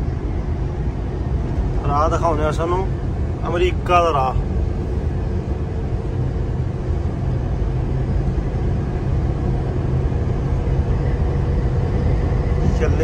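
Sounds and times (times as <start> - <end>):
truck engine and tyres rumbling: 0.0 - 13.0.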